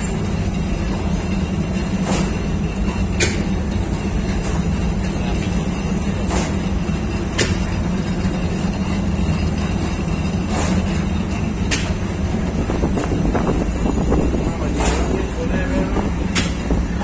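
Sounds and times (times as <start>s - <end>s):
conveyor oven machinery rumble: 0.0s - 17.0s.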